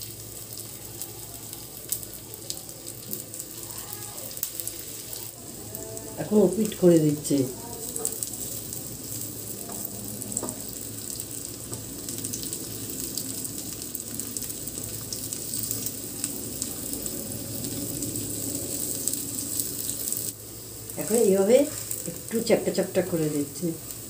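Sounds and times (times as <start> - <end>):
food frying with crackles: 0.0 - 24.0.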